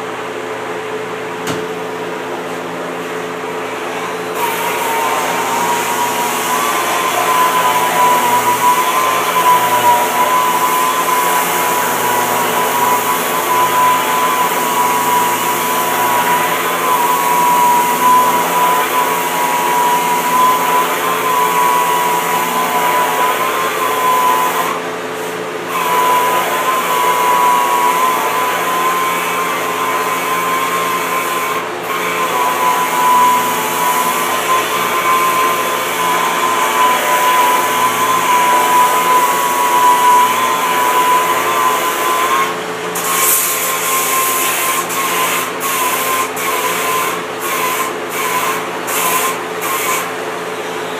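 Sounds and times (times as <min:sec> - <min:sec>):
sander whining: 0:03.7 - 0:24.8, 0:25.6 - 0:50.2.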